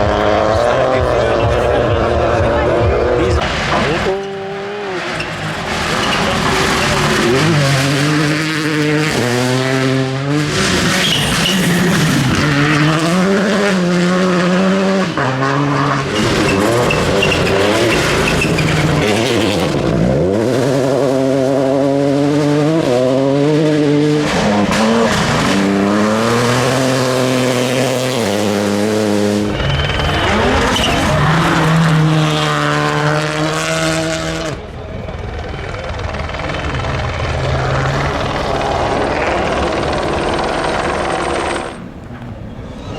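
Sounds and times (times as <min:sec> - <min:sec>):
rally car engines at full throttle: 0:00.0 - 0:42.9.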